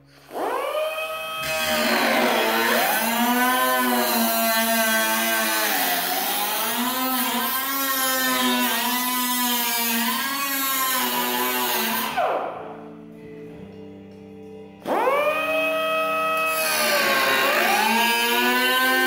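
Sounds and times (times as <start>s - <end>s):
grinder whining on sheet metal: 0.0s - 12.4s, 14.9s - 19.0s.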